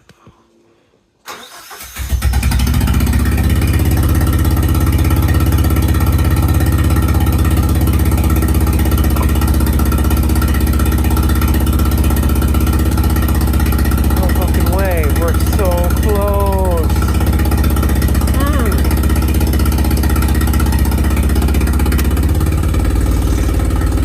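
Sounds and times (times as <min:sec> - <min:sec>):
car engine idling: 0:01.6 - 0:24.0.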